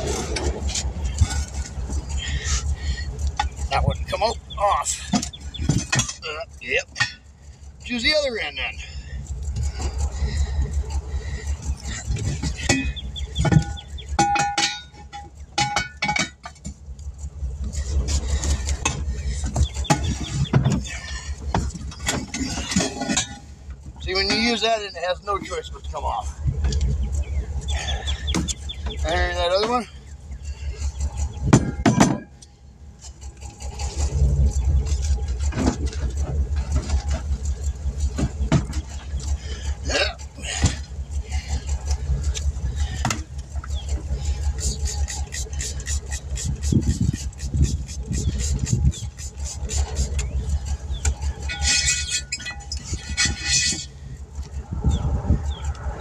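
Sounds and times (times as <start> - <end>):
low rumble: 0.0 - 56.0
vehicle engine idling: 0.0 - 56.0.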